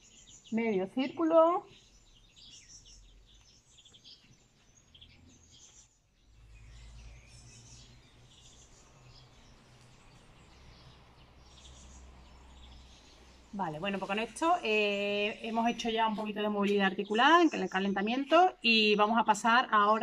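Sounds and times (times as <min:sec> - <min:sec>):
faint bird chirps: 0:00.0 - 0:19.3.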